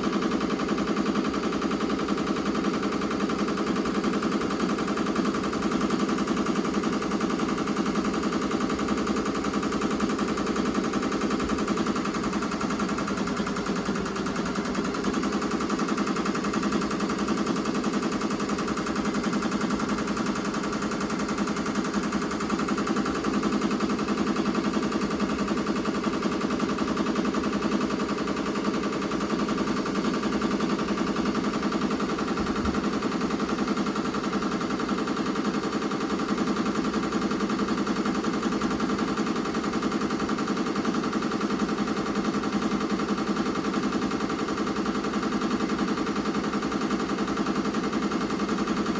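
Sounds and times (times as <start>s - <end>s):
embroidery machine clattering: 0.0s - 48.9s.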